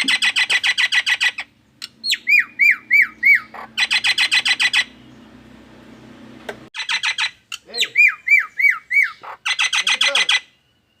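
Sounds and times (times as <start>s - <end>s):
bird mimicking car alarm: 0.0s - 5.4s, 6.8s - 11.0s.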